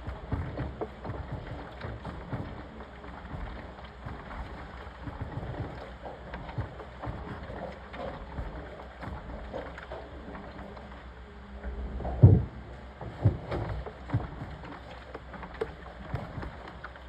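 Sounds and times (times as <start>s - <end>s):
washing machine rumbling: 0.0s - 17.0s
water sloshing in drum: 0.0s - 17.0s.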